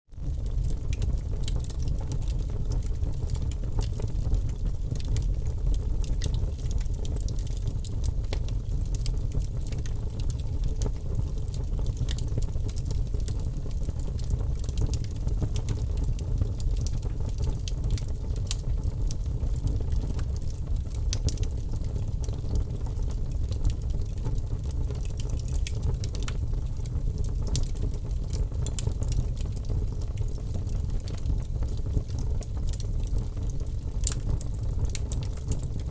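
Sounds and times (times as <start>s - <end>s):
wood fire crackling: 0.2s - 35.9s.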